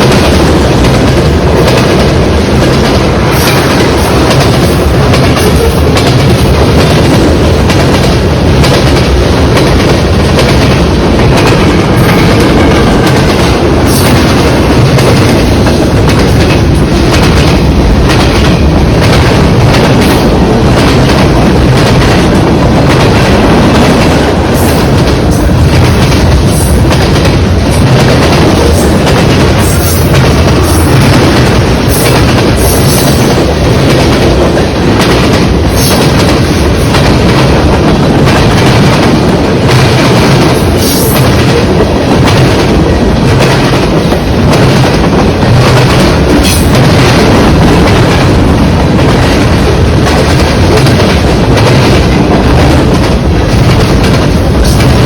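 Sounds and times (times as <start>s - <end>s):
train passing: 0.0s - 55.0s.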